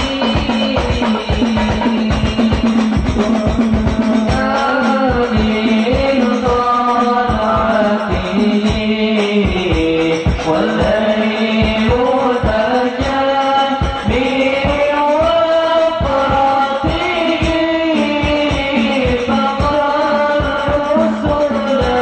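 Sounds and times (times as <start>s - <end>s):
hand drums: 0.0s - 22.0s
men singing devotional melody: 0.0s - 22.0s.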